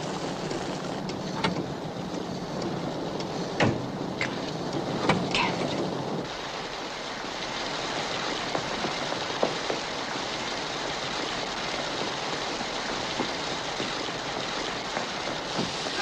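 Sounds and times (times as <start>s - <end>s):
raindrops tapping: 0.0s - 16.0s
steady rain pouring: 0.0s - 16.0s.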